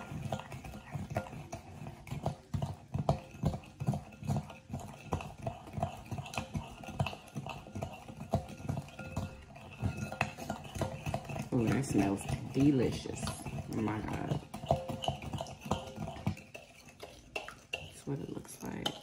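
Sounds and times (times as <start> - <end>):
metal spoon scraping glass bowl: 0.0 - 19.0.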